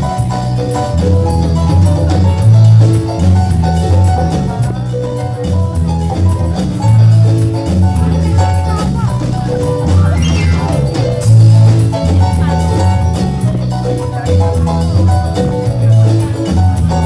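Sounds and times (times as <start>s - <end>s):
band playing a song: 0.0s - 17.0s
bass line: 0.0s - 17.0s
steady percussion beat: 0.0s - 17.0s.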